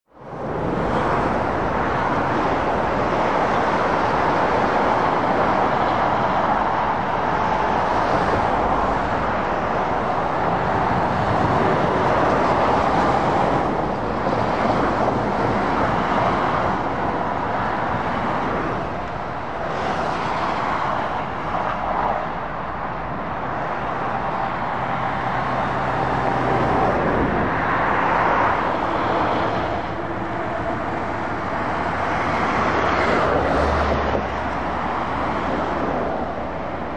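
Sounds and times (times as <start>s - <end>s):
motorway traffic passing: 0.1s - 36.9s.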